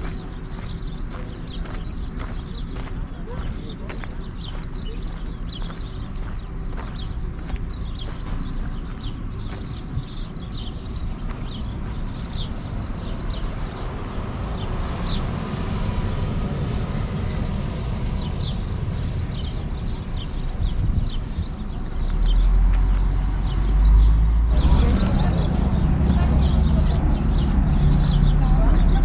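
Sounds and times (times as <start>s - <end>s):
low outdoor rumble: 0.0s - 29.0s
small birds chirping: 0.0s - 29.0s.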